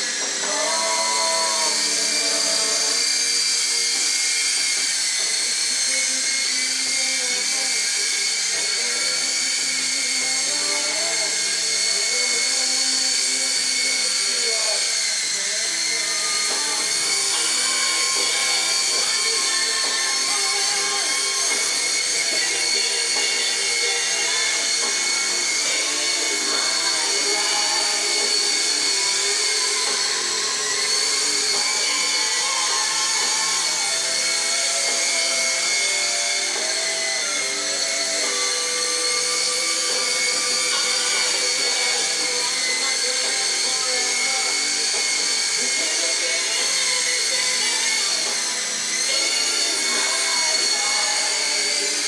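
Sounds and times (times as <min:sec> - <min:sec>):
toy helicopter motors whining: 0:00.0 - 0:52.0.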